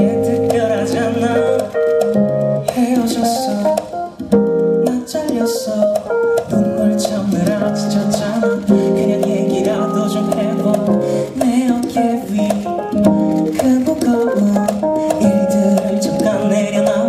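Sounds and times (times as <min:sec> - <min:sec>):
instrumental backing music: 0:00.0 - 0:17.0
man singing into microphone: 0:00.0 - 0:17.0.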